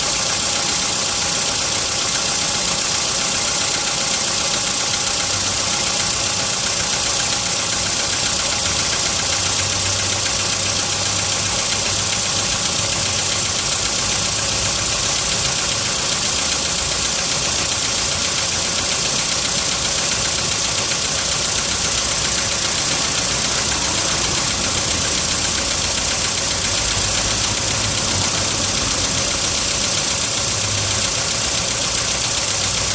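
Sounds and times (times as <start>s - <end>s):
car engine idling with knock: 0.0s - 32.9s.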